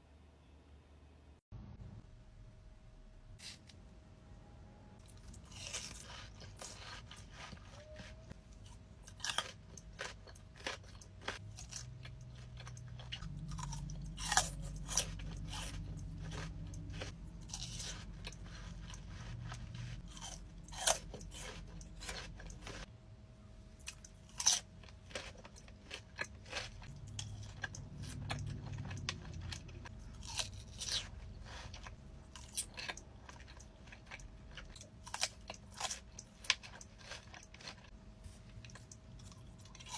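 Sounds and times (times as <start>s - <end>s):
person chewing crisp food: 5.0s - 22.9s, 23.8s - 39.9s.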